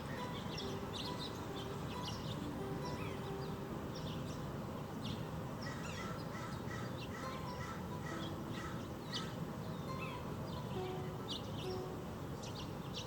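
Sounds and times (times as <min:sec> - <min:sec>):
low background noise: 0:00.0 - 0:13.0
small birds chirping: 0:00.0 - 0:13.0.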